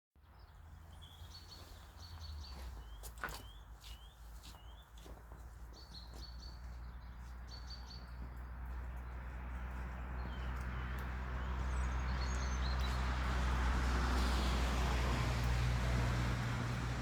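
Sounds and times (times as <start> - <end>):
songbirds chirping: 0.2 - 17.0.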